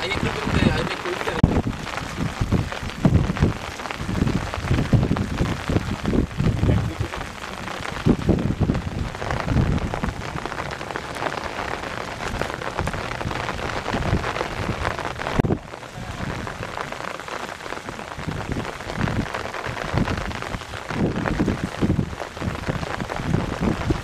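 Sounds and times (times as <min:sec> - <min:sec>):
rain falling: 0:00.0 - 0:24.0
wind buffeting microphone: 0:00.0 - 0:24.0.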